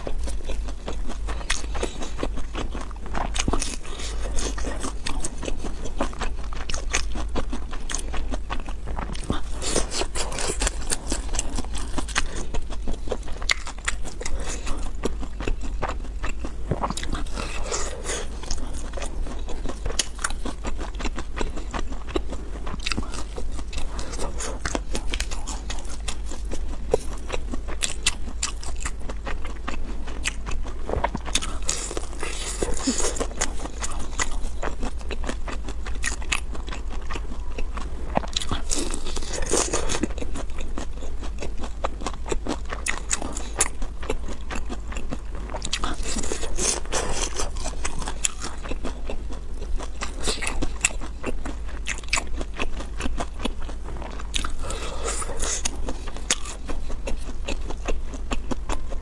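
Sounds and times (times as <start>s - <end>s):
crunchy chicken nuggets chewing: 0.0s - 59.0s.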